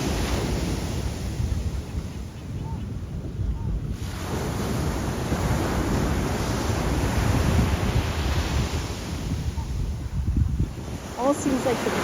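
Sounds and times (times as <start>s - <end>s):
ocean surf washing up beach: 0.0s - 2.1s, 3.9s - 12.0s
wind buffeting microphone: 0.0s - 12.0s.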